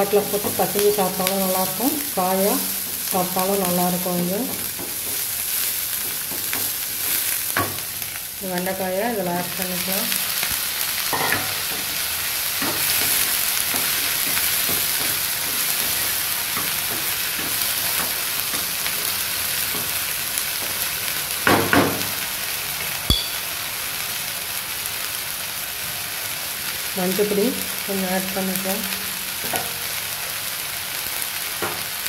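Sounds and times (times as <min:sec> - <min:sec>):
vegetables sizzling in hot oil: 0:00.0 - 0:32.0.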